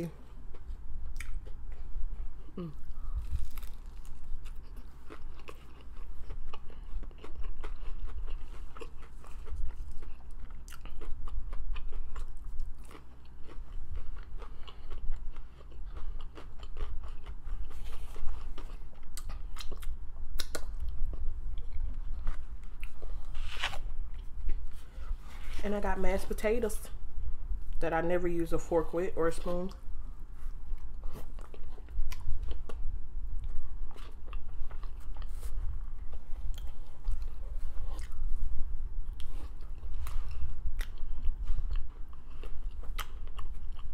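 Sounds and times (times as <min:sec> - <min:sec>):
crunching and chewing fried food: 0:00.0 - 0:25.1, 0:30.4 - 0:43.9.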